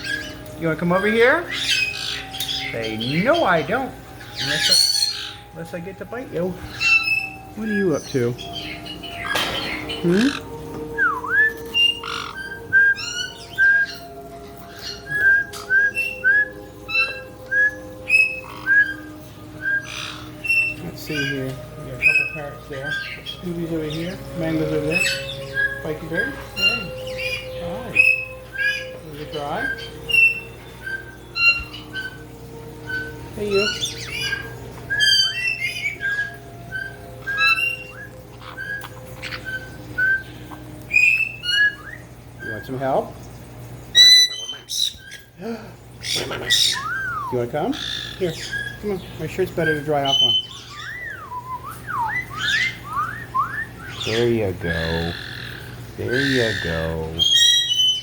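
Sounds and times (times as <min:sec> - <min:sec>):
harsh parrot calls: 0:00.0 - 0:05.6, 0:06.5 - 0:14.1, 0:14.7 - 0:21.3, 0:22.0 - 0:42.7, 0:43.9 - 0:58.0
parrots whistling: 0:00.0 - 0:58.0.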